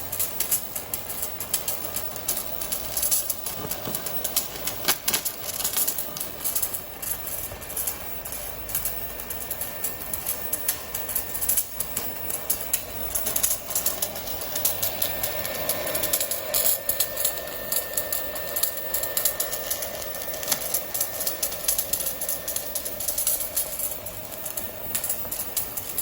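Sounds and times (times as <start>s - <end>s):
arc welder crackling: 0.0s - 26.0s.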